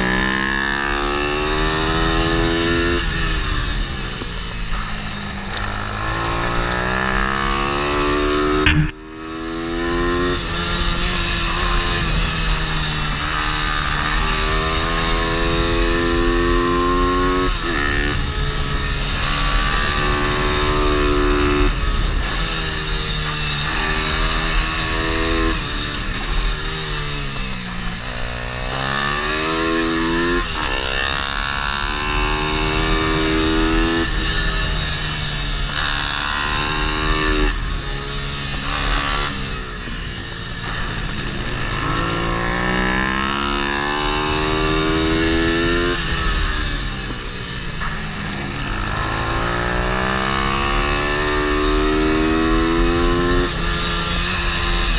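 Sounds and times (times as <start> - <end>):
motorbike engine accelerating: 0.0 - 54.9.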